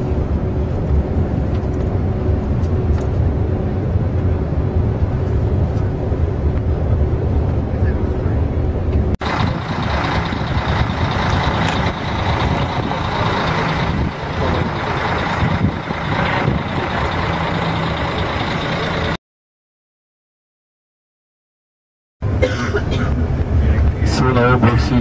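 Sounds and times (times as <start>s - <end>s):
bus engine and road drone: 0.0s - 19.2s, 22.2s - 25.0s
lorry engines and traffic: 0.0s - 19.2s, 22.2s - 25.0s.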